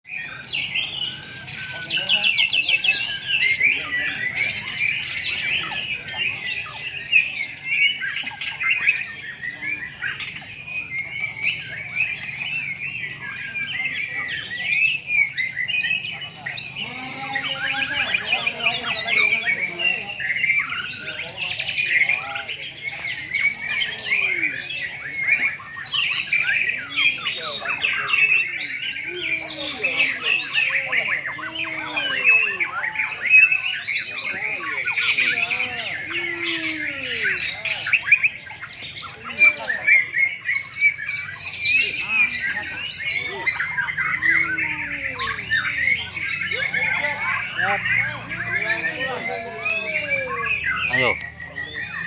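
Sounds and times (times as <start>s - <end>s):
birds singing whistled phrases: 0.0s - 52.0s.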